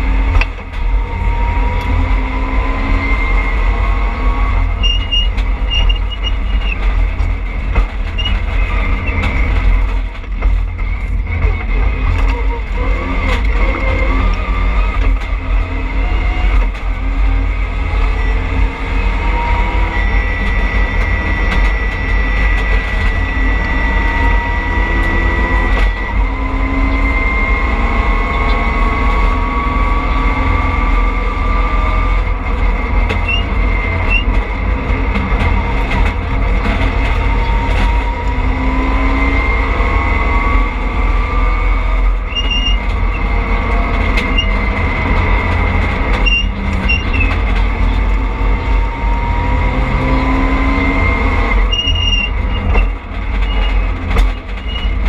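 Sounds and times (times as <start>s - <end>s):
rally car engine revving: 0.0s - 55.0s
road and tyre rumble: 0.0s - 55.0s.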